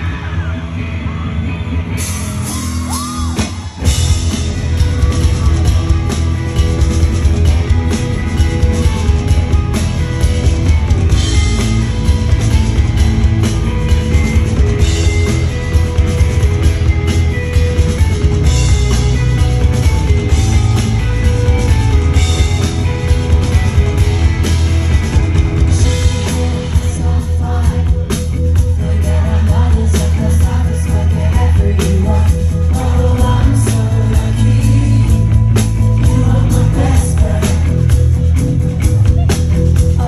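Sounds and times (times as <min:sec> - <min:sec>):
bass guitar: 0:00.0 - 0:40.0
electric guitars: 0:00.0 - 0:40.0
drum kit: 0:01.9 - 0:40.0.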